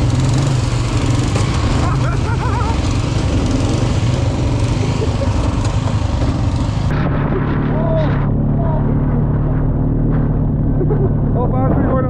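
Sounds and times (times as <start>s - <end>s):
atv engine running: 0.0s - 12.0s
riding lawn mower engine: 0.0s - 12.0s.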